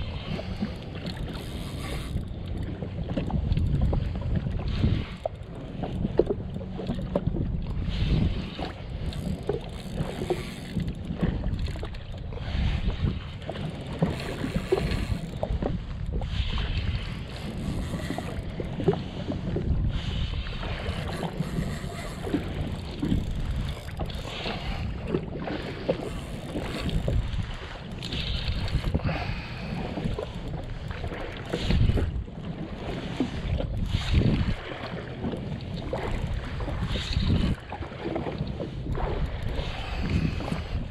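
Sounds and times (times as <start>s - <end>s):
water lapping against hull: 0.0s - 40.9s
wind buffeting microphone: 0.0s - 40.9s.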